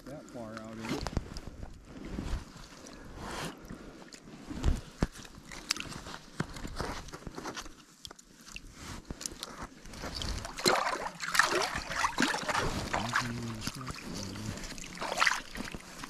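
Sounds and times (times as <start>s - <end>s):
water splashing and sloshing: 0.4s - 16.0s.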